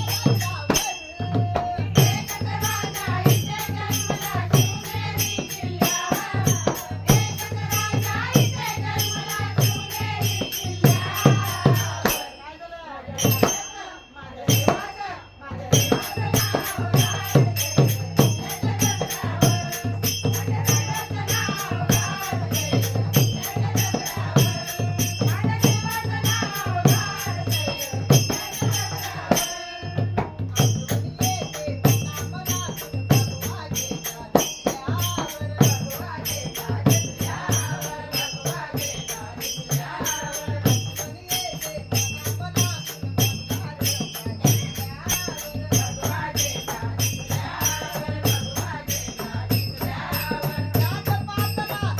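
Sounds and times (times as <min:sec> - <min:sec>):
rattling percussion beat: 0:00.0 - 0:12.4, 0:13.1 - 0:51.9.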